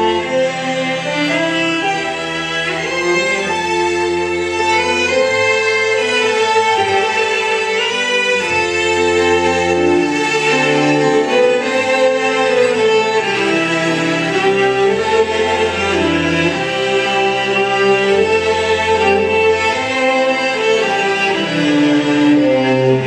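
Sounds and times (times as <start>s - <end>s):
fiddle melody: 0.0s - 23.0s
string ensemble chords: 0.0s - 23.0s.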